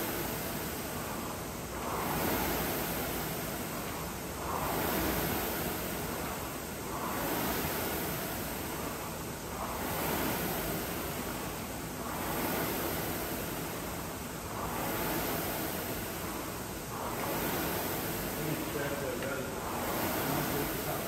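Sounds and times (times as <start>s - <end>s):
rowing machine flywheel whooshing: 0.0s - 21.0s.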